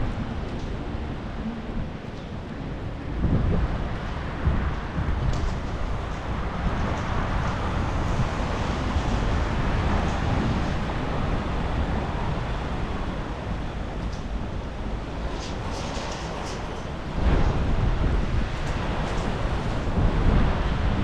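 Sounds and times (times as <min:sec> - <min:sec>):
storm wind gusting: 0:00.0 - 0:21.0
wind buffeting microphone: 0:00.0 - 0:21.0.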